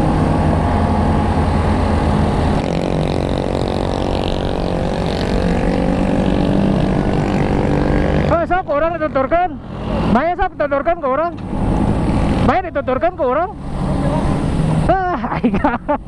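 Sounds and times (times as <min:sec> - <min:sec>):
dense engine drone: 0:00.0 - 0:16.0
road noise: 0:00.0 - 0:16.0.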